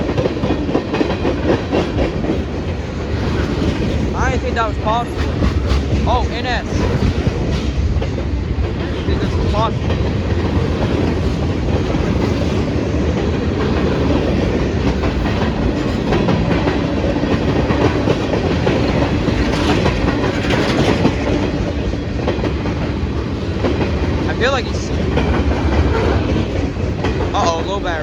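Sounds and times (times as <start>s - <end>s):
freight train rumbling: 0.0s - 28.0s
train wheels clicking over rail joints: 0.0s - 28.0s.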